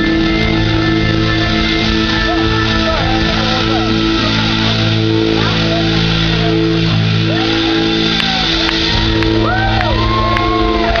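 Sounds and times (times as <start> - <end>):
crowd shouting and whistling: 0.0 - 11.0
rock band sustained chord: 0.0 - 11.0.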